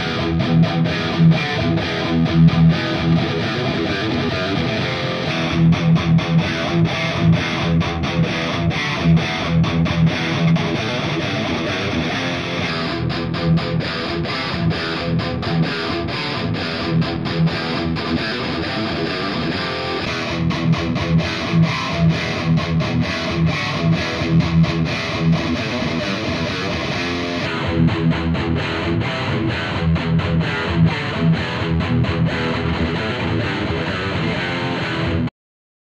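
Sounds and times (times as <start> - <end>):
electric guitar riff: 0.0 - 35.3.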